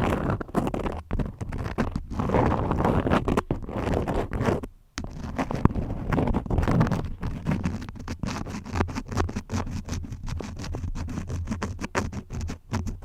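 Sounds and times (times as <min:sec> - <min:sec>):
crayons scribbling: 0:00.0 - 0:13.0.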